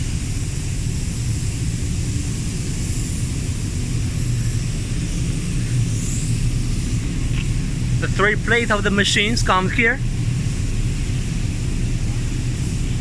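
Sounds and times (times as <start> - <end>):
factory machinery hum: 0.0 - 13.0
hiss: 0.0 - 13.0.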